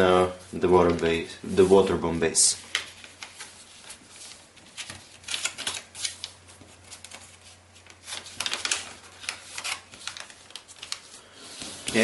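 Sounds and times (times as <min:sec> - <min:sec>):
paper rustling and crackling: 0:00.6 - 0:12.0.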